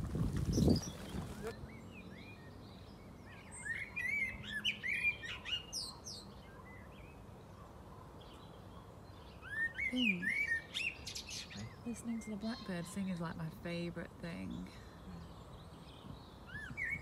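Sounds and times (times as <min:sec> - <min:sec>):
blackbird singing: 0:00.5 - 0:17.0.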